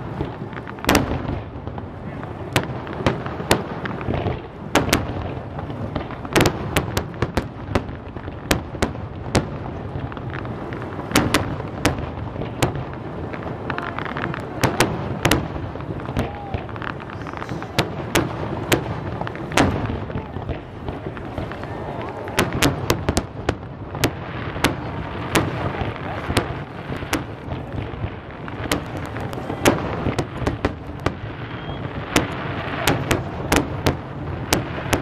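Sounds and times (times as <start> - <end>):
fireworks bursting with sharp bangs: 0.0 - 35.0
steady background noise: 0.0 - 35.0.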